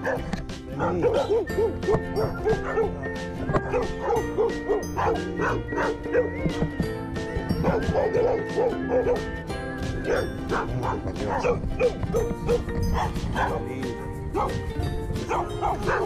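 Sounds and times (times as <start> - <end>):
dogs barking: 0.0 - 6.6, 7.5 - 16.0
light upbeat background music: 0.0 - 16.0.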